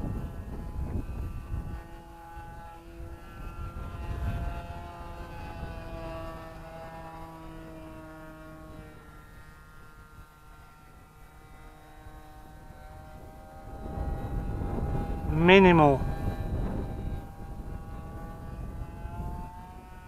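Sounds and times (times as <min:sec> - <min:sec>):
model plane engine buzzing: 0:00.0 - 0:20.0.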